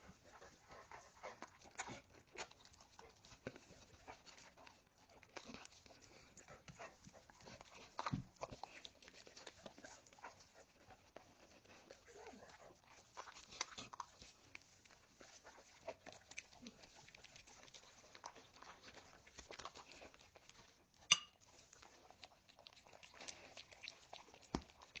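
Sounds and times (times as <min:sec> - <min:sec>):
dog chewing food: 0:00.0 - 0:25.0.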